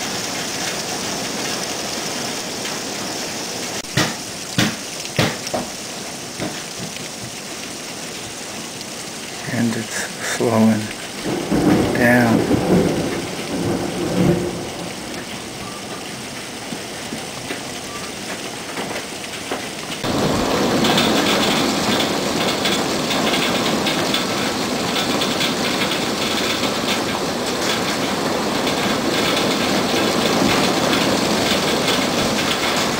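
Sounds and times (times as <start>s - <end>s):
hail pelting a wooden deck: 0.0s - 32.9s.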